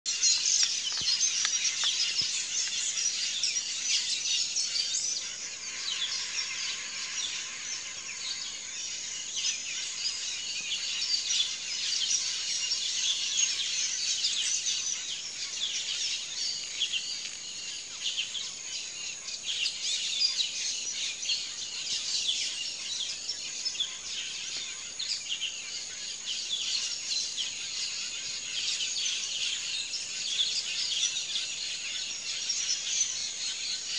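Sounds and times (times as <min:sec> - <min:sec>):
bird calls: 0:00.1 - 0:33.9
chorus of insects: 0:00.1 - 0:33.9.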